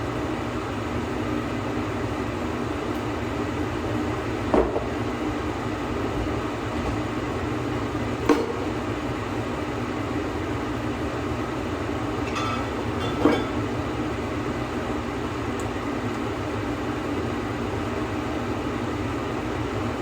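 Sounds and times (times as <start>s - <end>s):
mechanical hum and rumble: 0.0s - 20.0s.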